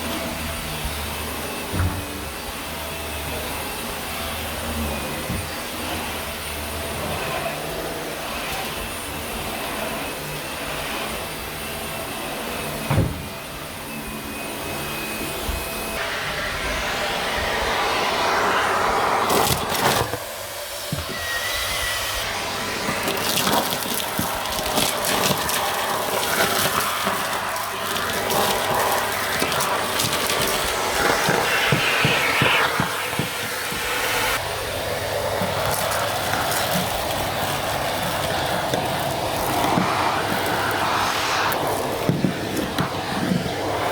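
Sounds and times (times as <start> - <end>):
vacuum cleaner on carpet: 0.0 - 43.9.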